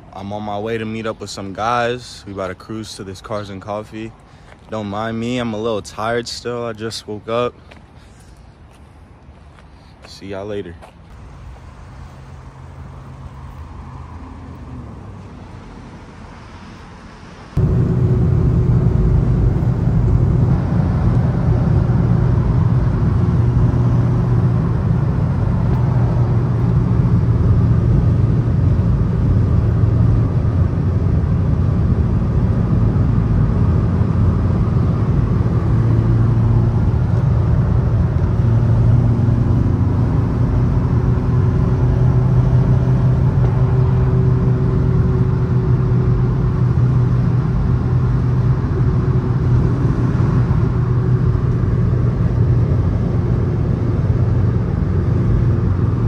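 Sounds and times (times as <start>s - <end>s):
car interior road and engine noise: 0.0s - 56.0s.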